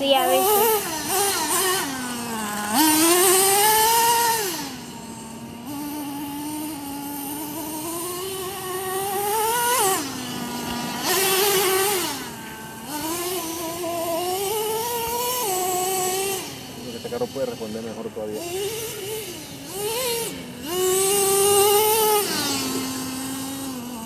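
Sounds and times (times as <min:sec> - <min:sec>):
small model engine revving: 0:00.0 - 0:24.0.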